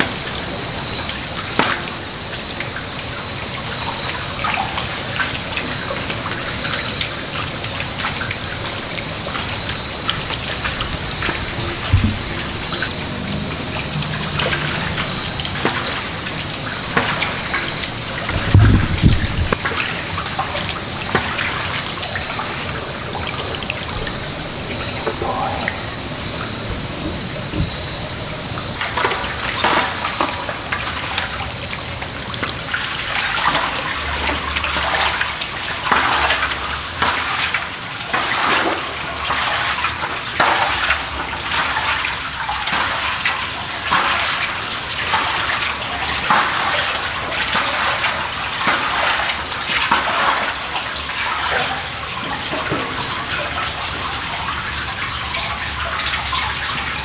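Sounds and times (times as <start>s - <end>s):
footsteps splashing in shallow water: 0.0s - 57.0s
running water: 0.0s - 57.0s.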